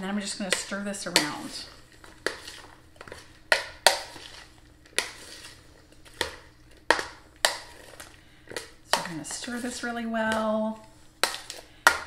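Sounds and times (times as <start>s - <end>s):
pasta salad rustling: 0.0s - 12.0s.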